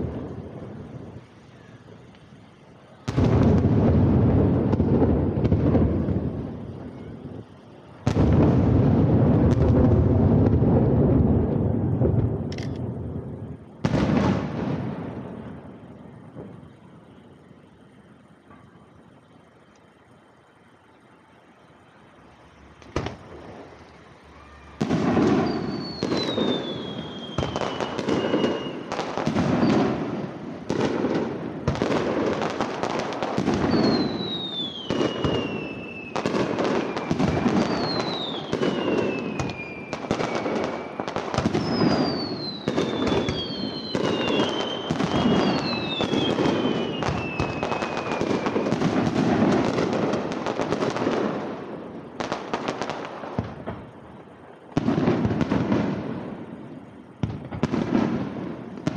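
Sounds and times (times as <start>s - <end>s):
descending firework whistles: 0.0s - 58.9s
firework crackling: 0.0s - 58.9s
firework booms: 2.9s - 17.4s, 22.8s - 58.9s.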